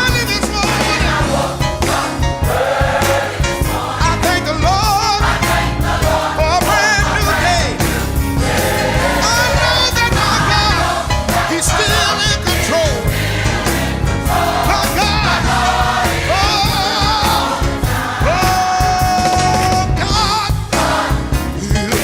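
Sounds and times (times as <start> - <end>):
band with bass and drums: 0.0 - 22.0
gospel choir singing: 0.0 - 22.0.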